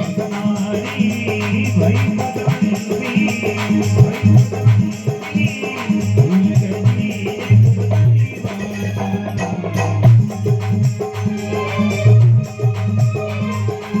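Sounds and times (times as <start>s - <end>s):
rattling hand percussion: 0.0s - 14.0s.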